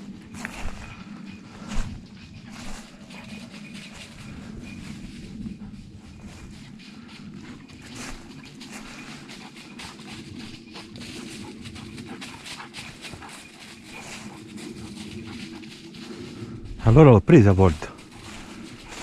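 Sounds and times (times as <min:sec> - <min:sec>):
footsteps through dry leaves: 0:00.0 - 0:19.0.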